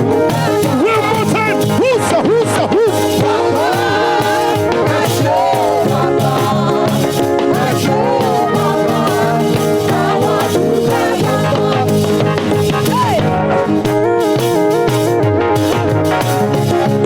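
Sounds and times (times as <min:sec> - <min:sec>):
voices singing chorus: 0:00.0 - 0:13.8
live band playing praise song: 0:00.0 - 0:17.0.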